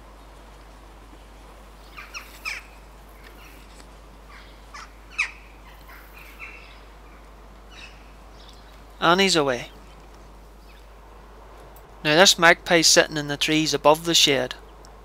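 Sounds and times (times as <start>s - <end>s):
jackdaws calling: 0.0s - 12.2s.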